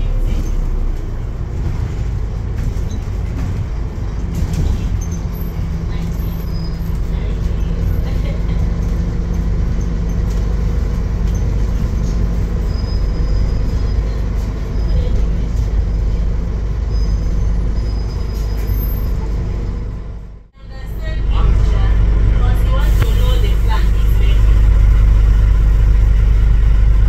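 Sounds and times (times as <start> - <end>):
bus engine rumble: 0.0 - 27.0.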